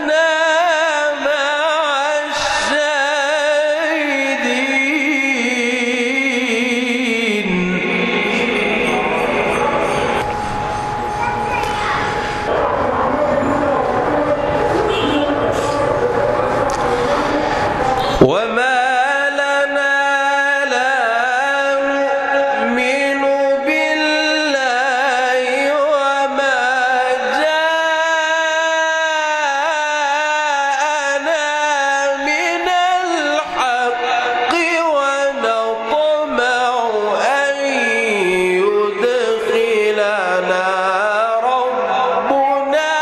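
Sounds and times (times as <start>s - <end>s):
man chanting melodically: 0.0s - 10.5s, 15.7s - 43.0s.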